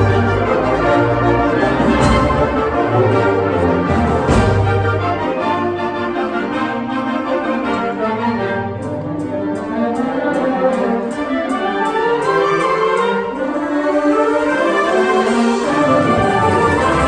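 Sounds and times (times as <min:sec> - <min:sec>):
school band playing: 0:00.0 - 0:17.0.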